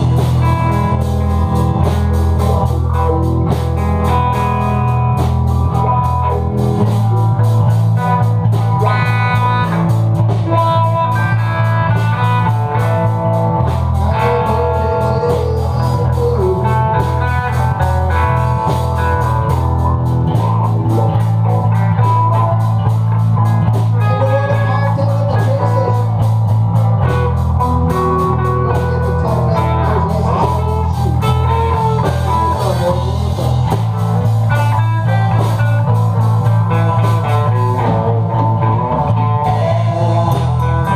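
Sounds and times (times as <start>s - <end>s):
drums: 0.0s - 40.9s
electric guitar lead lines: 0.0s - 40.9s
heavy boomy bass: 0.0s - 40.9s.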